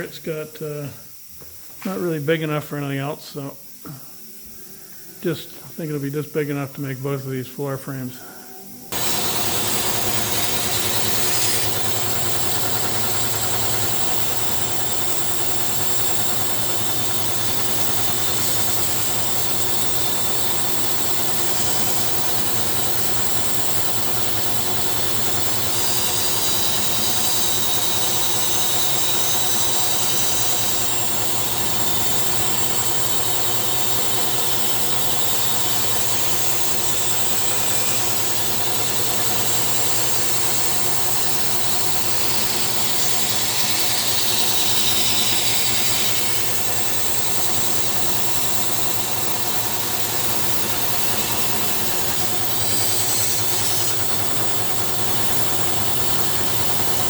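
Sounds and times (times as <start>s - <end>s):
power tool motor whirring: 8.9s - 57.0s.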